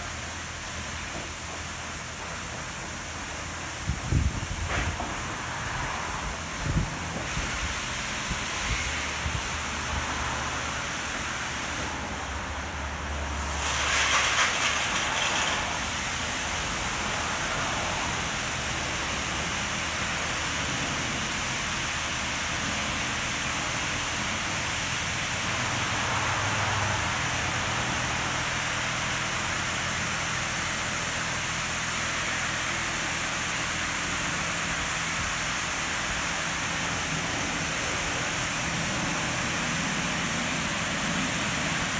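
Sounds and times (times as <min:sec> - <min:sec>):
car wash water spray hissing: 0:00.0 - 0:41.9.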